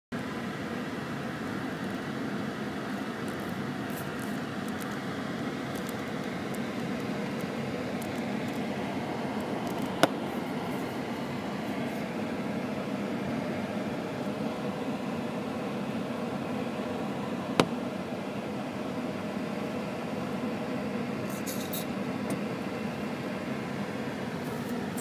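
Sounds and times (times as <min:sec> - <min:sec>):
car cabin road and engine noise: 0:00.2 - 0:25.0.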